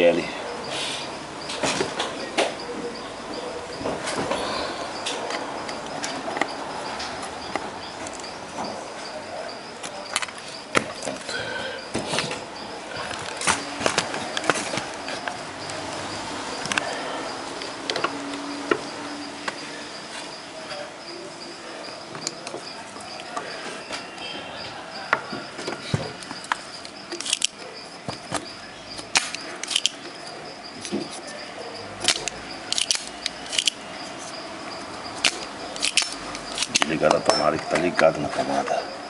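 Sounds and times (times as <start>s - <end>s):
insect high pulsing chirp: 0.0s - 39.0s.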